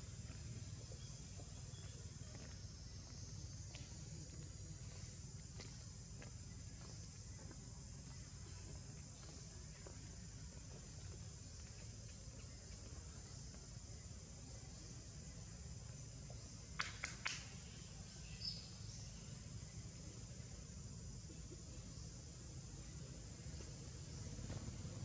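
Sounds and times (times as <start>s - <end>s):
insect chorus buzzing: 0.0s - 25.0s.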